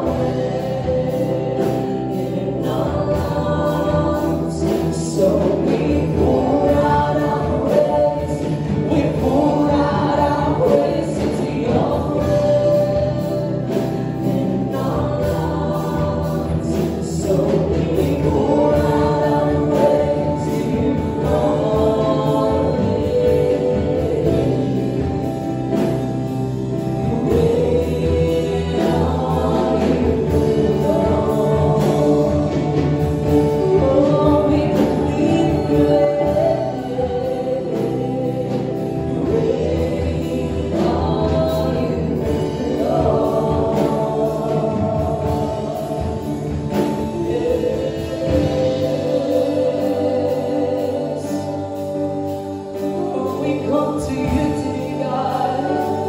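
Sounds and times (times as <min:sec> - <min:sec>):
keyboard: 0:00.0 - 0:56.0
singers: 0:00.0 - 0:56.0.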